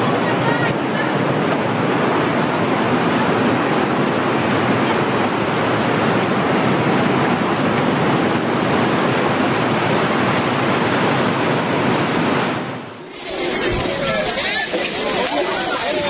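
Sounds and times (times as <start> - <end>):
loud rushing noise: 0.0 - 16.0.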